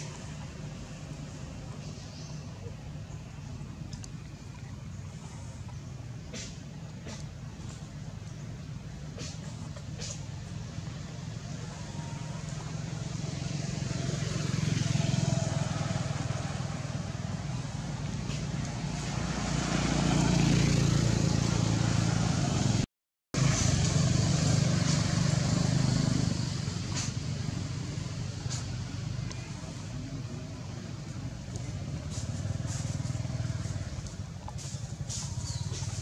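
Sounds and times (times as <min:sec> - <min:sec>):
passing road traffic: 0:00.0 - 0:36.0.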